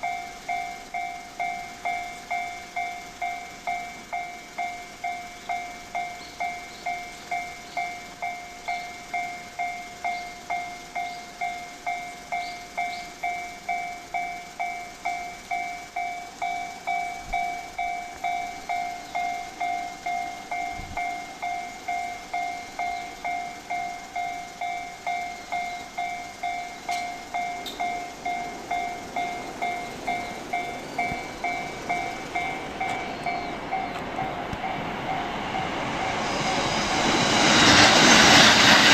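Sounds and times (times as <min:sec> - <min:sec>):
level crossing warning bell: 0:00.0 - 0:38.9
passing train rush: 0:00.0 - 0:38.9.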